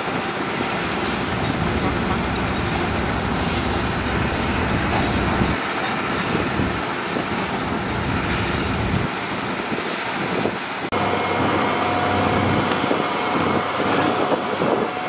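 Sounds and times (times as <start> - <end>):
excavator diesel engines droning: 0.0 - 15.0.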